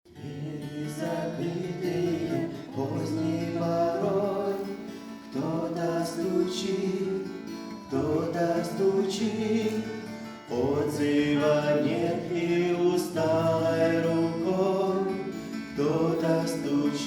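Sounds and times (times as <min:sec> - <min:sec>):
choir singing a hymn: 0:00.1 - 0:17.0.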